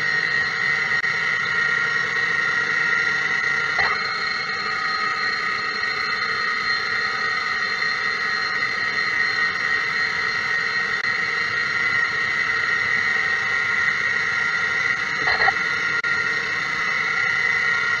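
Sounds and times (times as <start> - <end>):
lathe cutting metal whine: 0.0 - 18.0.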